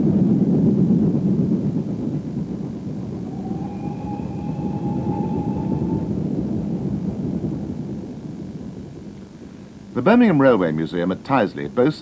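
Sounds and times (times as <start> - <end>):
train wheels rumbling on rails: 0.0 - 10.2.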